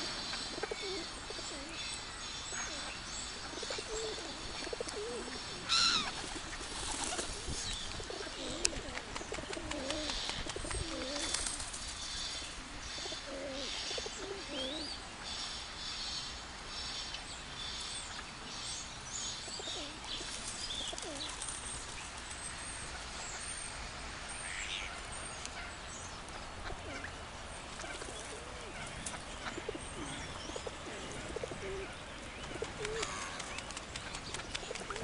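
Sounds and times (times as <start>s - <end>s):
birds chirping and twittering: 0.0s - 35.0s
lower curving bird calls: 0.0s - 35.0s
steady outdoor hiss: 0.0s - 35.0s.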